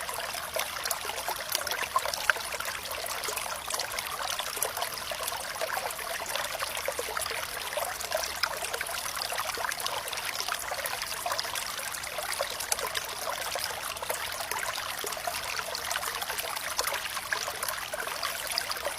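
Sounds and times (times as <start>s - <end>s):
water trickling in a stream: 0.0s - 18.9s.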